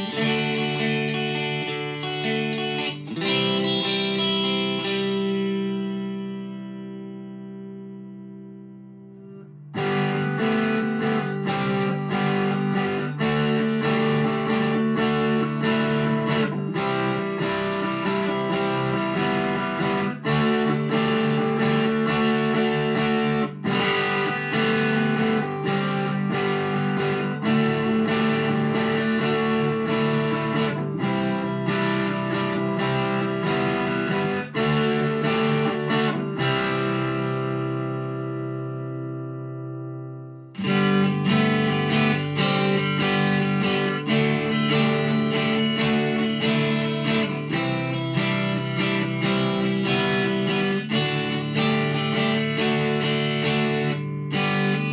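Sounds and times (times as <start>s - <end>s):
electric guitar strumming chords: 0.0s - 54.9s.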